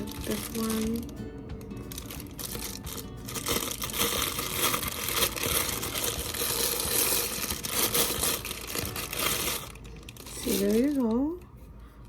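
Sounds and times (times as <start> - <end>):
packaging wrap crinkling: 0.0 - 1.1, 1.9 - 11.4.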